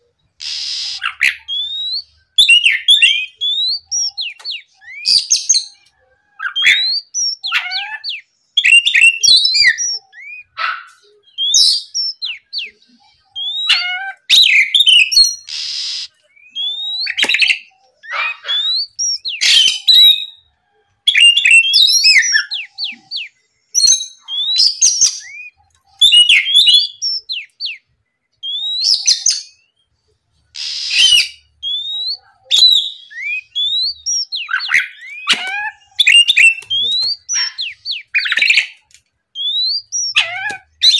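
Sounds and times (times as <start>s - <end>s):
bird singing whistles and chirps: 0.4s - 5.8s, 6.4s - 10.6s, 11.2s - 29.9s, 30.6s - 38.8s, 39.4s - 40.9s.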